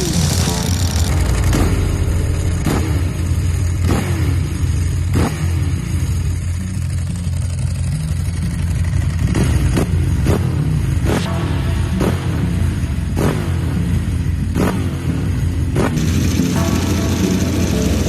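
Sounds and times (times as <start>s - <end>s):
motorcycle engine rumbling: 0.0s - 18.0s.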